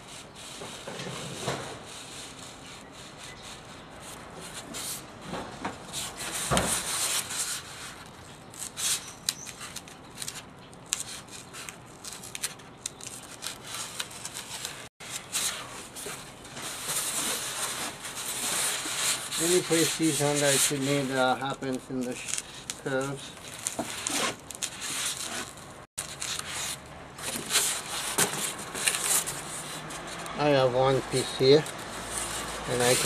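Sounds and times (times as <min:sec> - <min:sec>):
blade rasping through styrofoam: 0:05.9 - 0:33.0.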